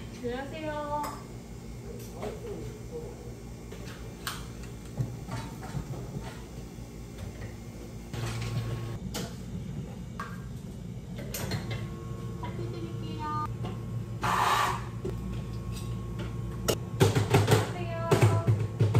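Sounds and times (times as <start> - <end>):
espresso machine humming: 0.0 - 9.8, 11.1 - 18.9.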